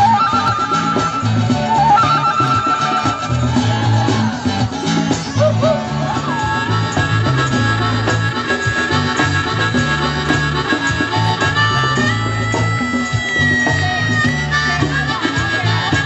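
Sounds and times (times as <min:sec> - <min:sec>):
guitar: 0:00.0 - 0:16.0
harmonica playing: 0:00.0 - 0:16.0
steady bass line: 0:00.0 - 0:16.0.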